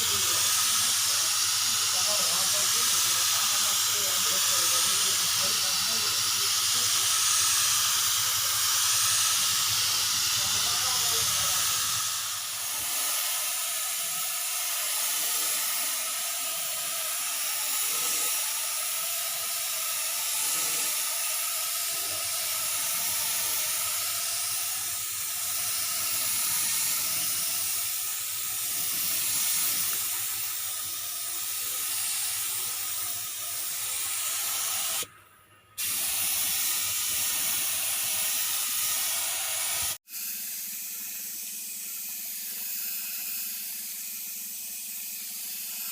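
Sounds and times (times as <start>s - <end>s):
spray gun hissing: 0.0s - 35.1s, 35.8s - 45.9s.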